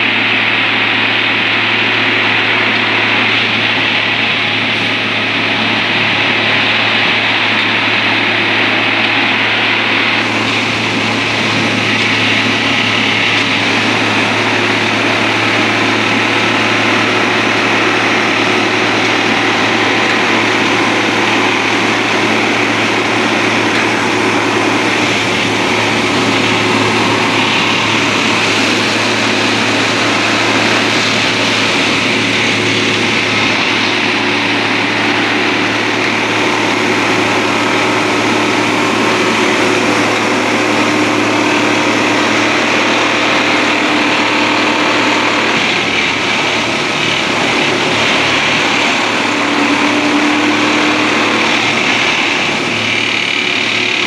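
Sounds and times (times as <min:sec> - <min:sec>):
diesel engine running loudly: 0:00.0 - 0:54.0.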